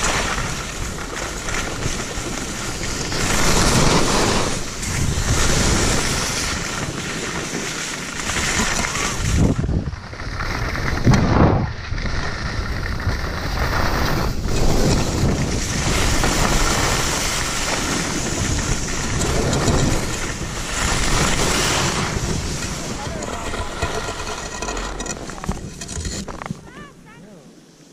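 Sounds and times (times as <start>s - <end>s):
skis scraping on snow: 0.0s - 27.9s
wind buffeting microphone: 2.0s - 26.8s.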